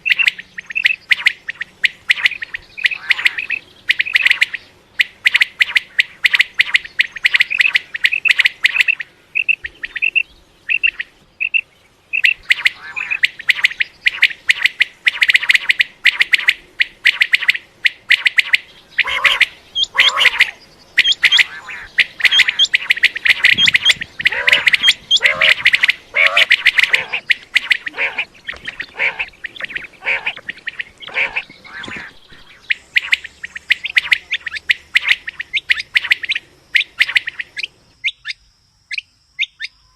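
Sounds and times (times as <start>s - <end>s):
harsh lower bird calls: 0.0s - 39.9s
quail calling high notes: 0.1s - 11.6s, 12.2s - 37.6s.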